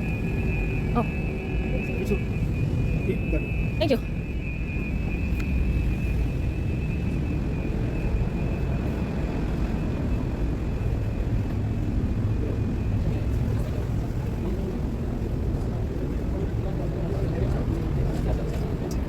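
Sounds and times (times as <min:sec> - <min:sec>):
airliner and airport rumble: 0:00.0 - 0:19.0
faint high whine: 0:00.0 - 0:19.0.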